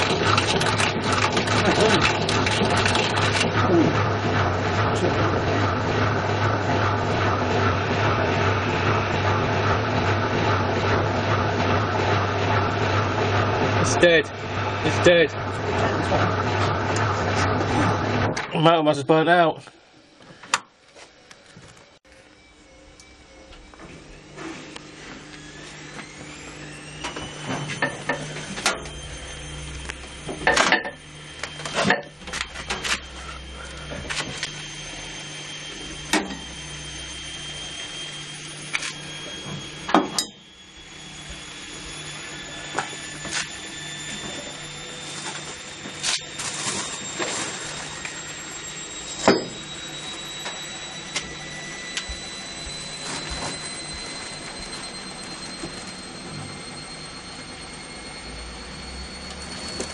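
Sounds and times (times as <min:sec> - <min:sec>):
washing machine motor whine: 0:00.0 - 0:59.9.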